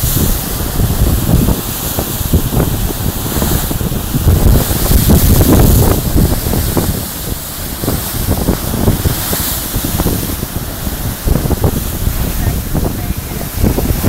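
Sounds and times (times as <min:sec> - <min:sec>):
surf crashing on rocks: 0:00.0 - 0:14.0
wind buffeting microphone: 0:00.0 - 0:14.0.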